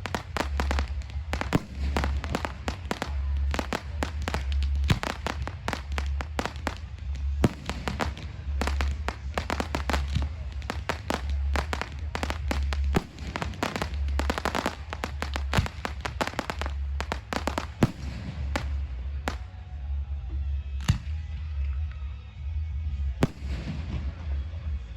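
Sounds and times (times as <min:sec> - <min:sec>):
fireworks bangs and crackles: 0:00.0 - 0:19.8, 0:23.2 - 0:24.9.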